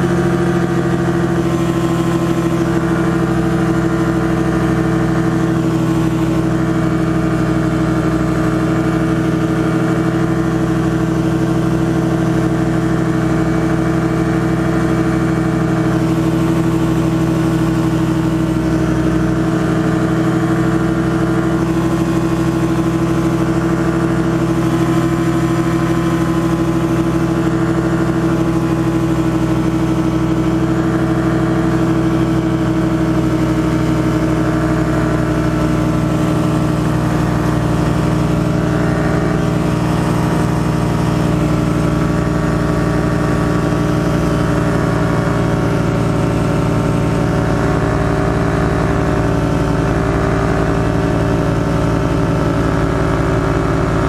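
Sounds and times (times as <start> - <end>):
ultralight aircraft engine droning: 0.0 - 54.0.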